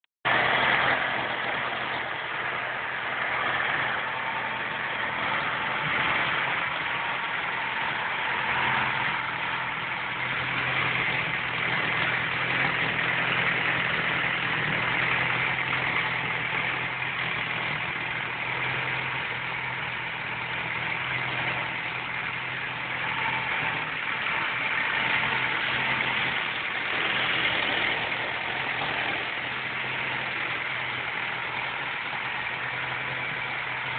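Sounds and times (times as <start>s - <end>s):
stationary engine running: 0.2s - 33.9s.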